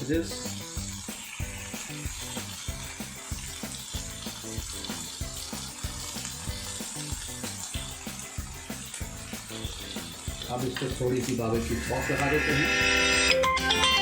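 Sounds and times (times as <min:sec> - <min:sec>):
background music with steady beat: 0:00.0 - 0:14.0
food sizzling in a pan: 0:00.0 - 0:14.0.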